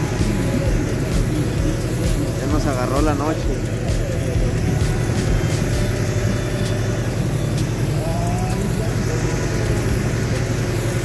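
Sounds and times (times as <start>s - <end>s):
hiss of spray mist: 0.0s - 11.0s
sprayer engine droning: 0.0s - 11.0s.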